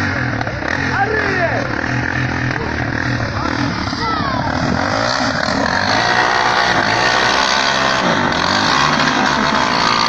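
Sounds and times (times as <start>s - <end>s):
vehicle engines revving: 0.0s - 10.0s.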